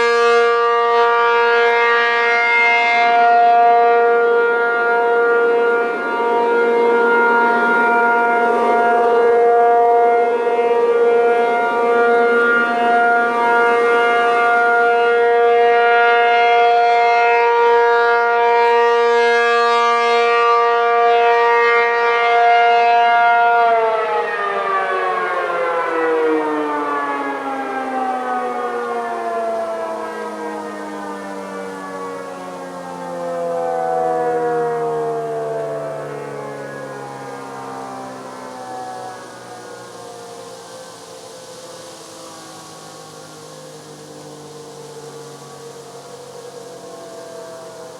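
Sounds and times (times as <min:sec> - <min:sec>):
outdoor warning siren: 0:00.0 - 0:47.9.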